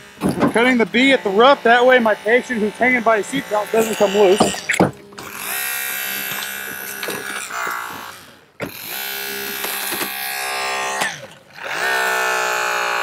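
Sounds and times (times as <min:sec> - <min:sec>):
hydraulic cutter motor whining: 0:00.0 - 0:13.0.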